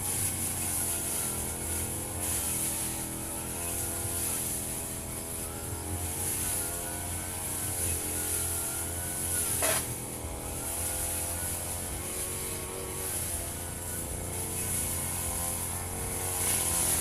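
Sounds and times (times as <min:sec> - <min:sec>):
blade swishing through grass: 0:00.0 - 0:17.0
brush cutter engine running: 0:00.0 - 0:17.0.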